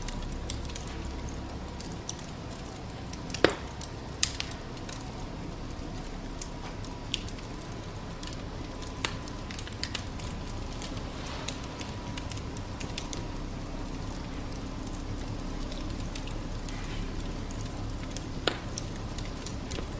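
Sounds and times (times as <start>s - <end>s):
fire crackling: 0.0s - 19.9s
sharp pops of burning wood: 0.0s - 19.9s.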